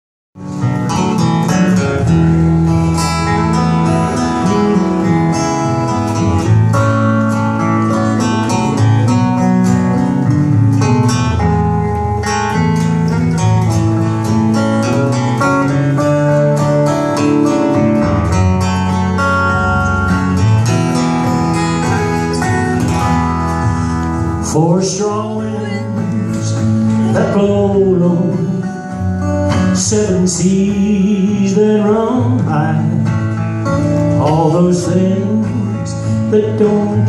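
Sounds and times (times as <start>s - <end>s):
steady low notes: 0.4s - 36.0s
acoustic guitar strummed: 0.4s - 37.0s.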